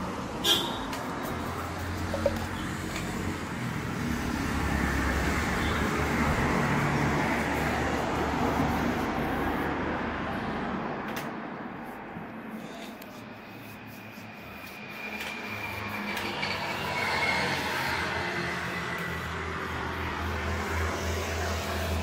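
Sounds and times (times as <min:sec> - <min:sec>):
road vehicle passing by: 0:00.0 - 0:22.0.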